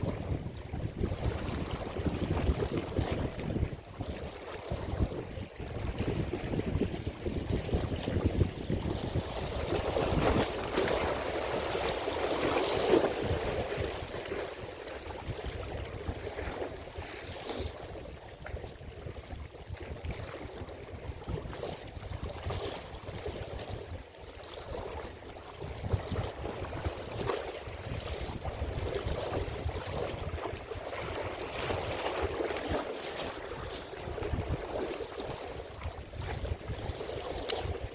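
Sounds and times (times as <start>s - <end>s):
water sloshing and lapping: 0.0s - 37.9s
wind buffeting microphone: 0.0s - 37.9s.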